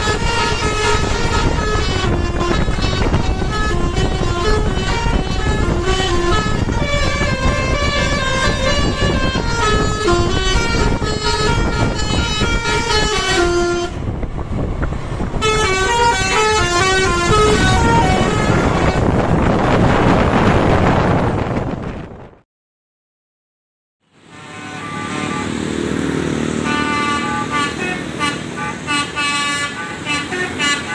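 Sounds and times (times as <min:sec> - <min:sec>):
multi-tone bus horn tune: 0:00.0 - 0:19.8, 0:24.1 - 0:30.9
loud broad rushing noise: 0:00.0 - 0:22.3, 0:24.1 - 0:30.9
bus engines rumbling: 0:00.0 - 0:22.4, 0:24.1 - 0:30.9.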